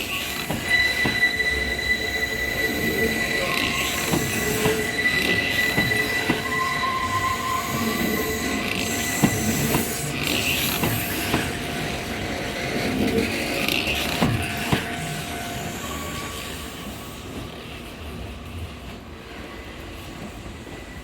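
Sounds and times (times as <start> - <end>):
train wheels squealing on rails: 0.0 - 18.2, 19.2 - 21.0.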